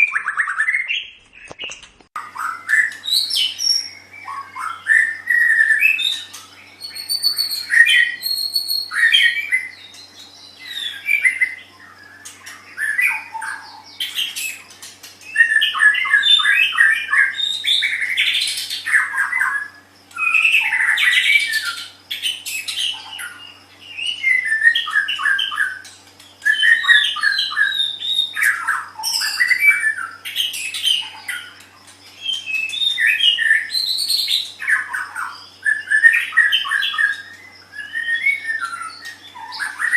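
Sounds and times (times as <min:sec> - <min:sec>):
faint steady hum: 0:00.0 - 0:39.9
bird singing whistled phrases: 0:02.2 - 0:14.6, 0:15.2 - 0:31.6, 0:32.2 - 0:39.9.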